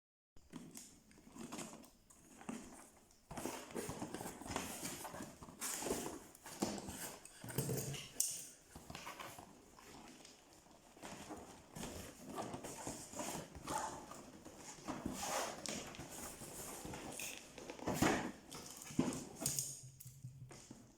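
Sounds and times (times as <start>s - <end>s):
packaging rustling and scraping: 0.5s - 19.8s.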